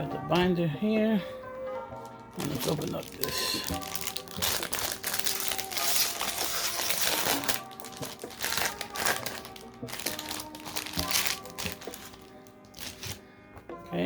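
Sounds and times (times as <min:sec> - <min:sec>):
background music: 0:00.0 - 0:14.0
plastic wrapping crinkling: 0:02.0 - 0:13.2.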